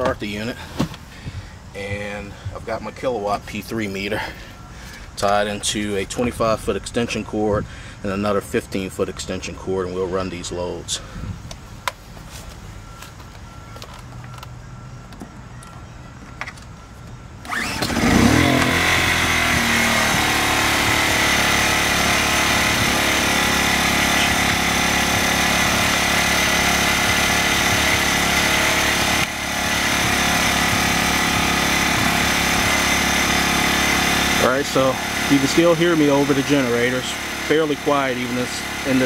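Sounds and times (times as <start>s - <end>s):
generator engine running: 0.0s - 39.0s.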